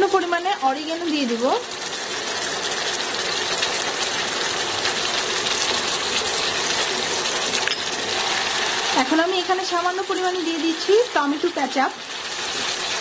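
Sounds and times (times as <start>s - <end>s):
sauce bubbling and sizzling: 0.0s - 13.0s.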